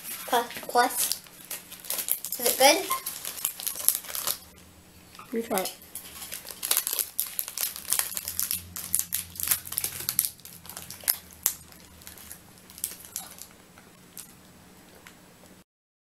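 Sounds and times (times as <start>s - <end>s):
plastic wrapper crinkling: 0.0s - 15.2s.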